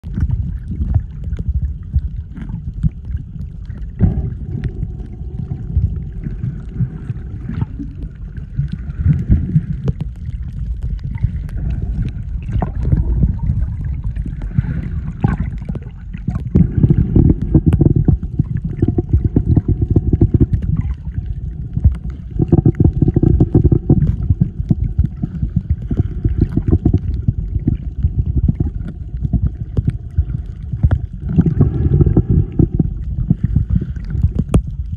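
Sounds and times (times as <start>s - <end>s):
faint steady hum: 0.0s - 34.9s
muffled underwater water rumble: 0.0s - 34.9s
underwater clicks: 0.1s - 34.9s.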